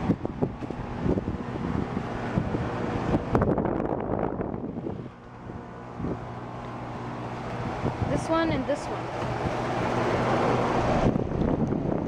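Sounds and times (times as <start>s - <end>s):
air conditioner compressor hum: 0.0s - 12.0s
fan rushing air: 0.0s - 12.0s
wind on microphone: 0.0s - 12.0s.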